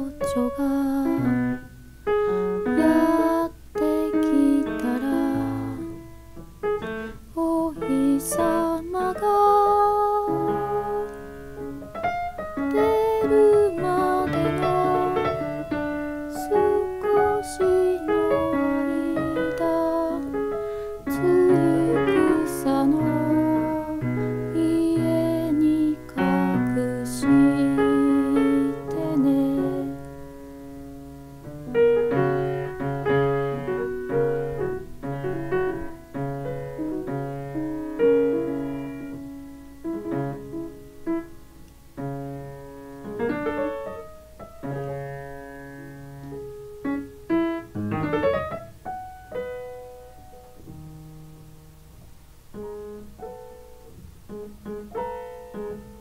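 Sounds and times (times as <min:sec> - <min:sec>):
piano notes and chords: 0:00.0 - 0:56.0.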